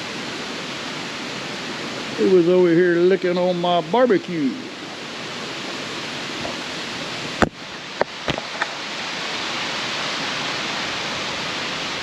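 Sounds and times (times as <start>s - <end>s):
running water: 0.0s - 12.0s
steady rain falling: 0.0s - 12.0s.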